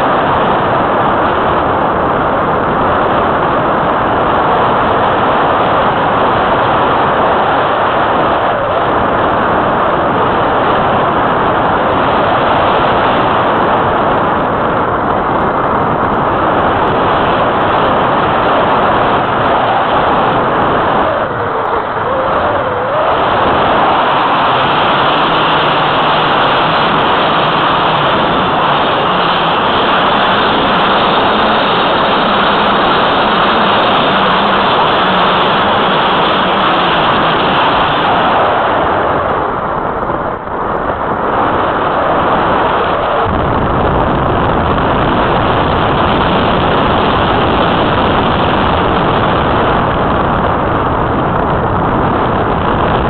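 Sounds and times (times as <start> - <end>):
rush of airflow: 0.0 - 53.0.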